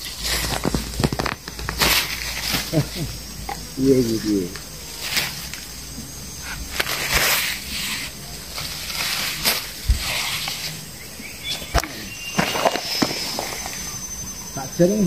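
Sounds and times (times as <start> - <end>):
footsteps in dry soil: 0.0 - 14.1
leaves rustling: 0.0 - 15.0.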